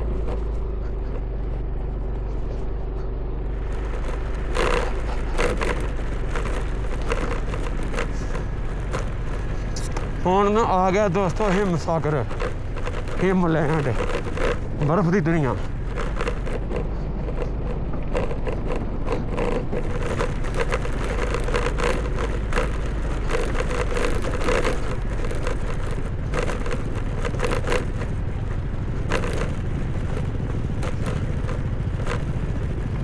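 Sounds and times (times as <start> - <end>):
engine low hum: 0.0 - 33.0
tyres crunching over rough ground: 0.0 - 33.0.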